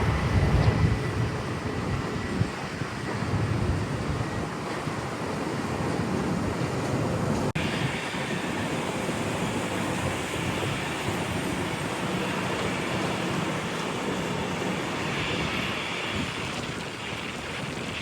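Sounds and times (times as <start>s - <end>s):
jet engines roaring: 0.0s - 18.0s
wind on microphone: 0.0s - 18.0s.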